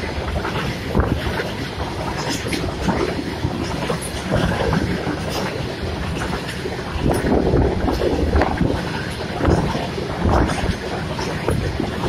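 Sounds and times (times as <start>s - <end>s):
steel wheels clattering on rails: 0.0s - 12.0s
train wagons rumbling past: 0.0s - 12.0s
wind buffeting microphone: 0.0s - 12.0s.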